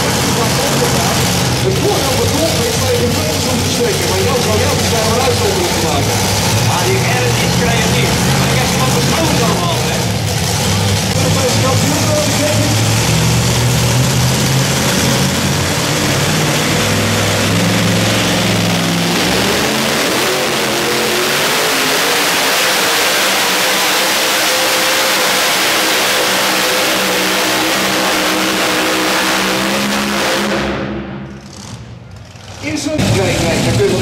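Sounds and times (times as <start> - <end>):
tractor engine at full throttle: 0.0 - 34.0.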